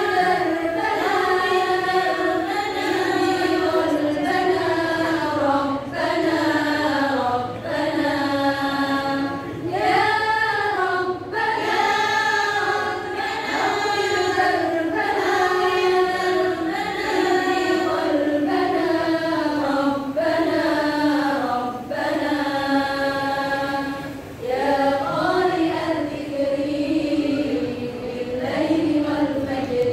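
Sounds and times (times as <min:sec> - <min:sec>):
women's choir singing: 0:00.0 - 0:29.9.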